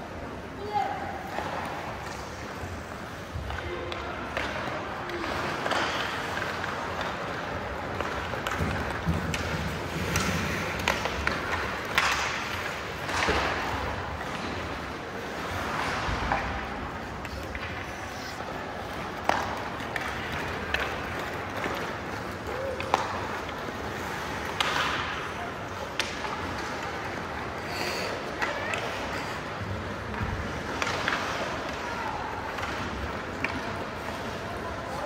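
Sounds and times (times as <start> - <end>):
hockey sticks and puck clacking: 1.2 - 35.0.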